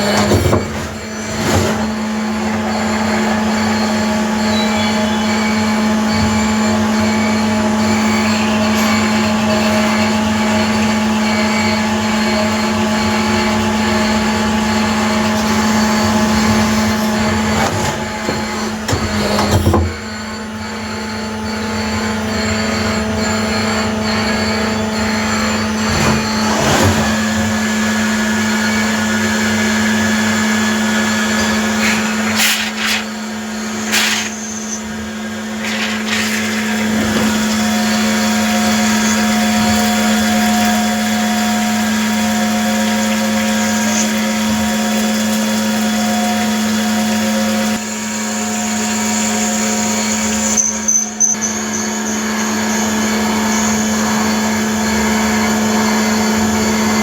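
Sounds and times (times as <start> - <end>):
lathe machine hum: 0.0 - 50.7, 51.4 - 57.0.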